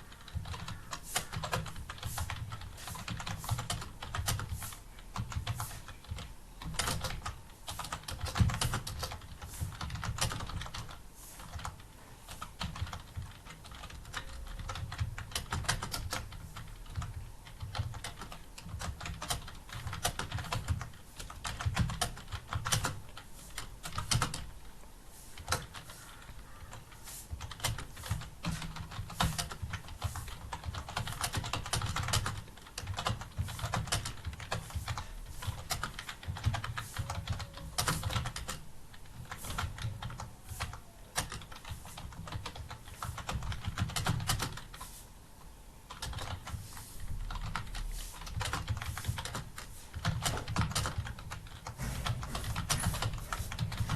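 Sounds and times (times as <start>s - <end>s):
fast typing on keyboard: 0.0s - 24.7s, 25.4s - 44.8s, 45.9s - 53.9s.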